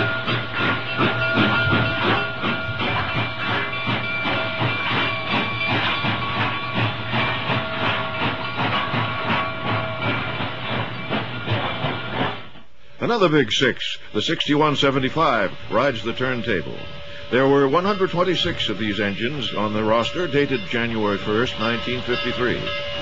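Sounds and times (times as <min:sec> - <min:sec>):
hissing steam: 0:00.0 - 0:23.0
steam locomotive chuffing: 0:00.0 - 0:23.0.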